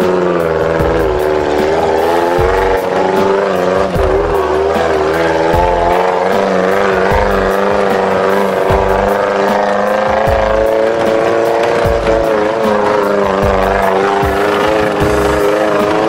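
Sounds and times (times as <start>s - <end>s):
background music with steady beat: 0.0s - 16.0s
off-road vehicle engine running: 0.0s - 16.0s.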